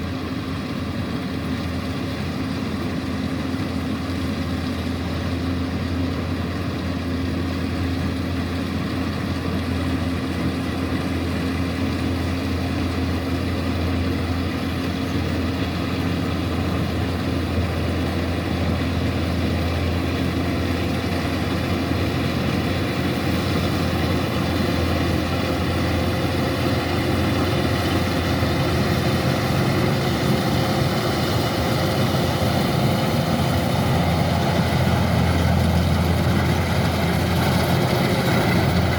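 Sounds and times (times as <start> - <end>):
combine harvester engine humming: 0.0 - 38.9.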